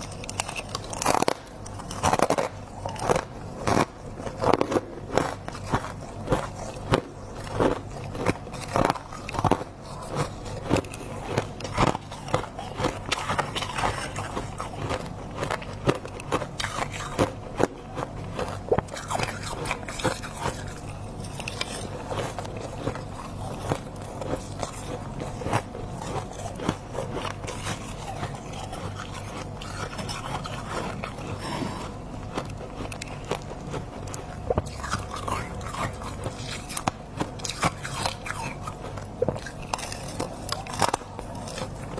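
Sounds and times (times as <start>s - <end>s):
chewing icy frost crunches: 0.0s - 41.9s.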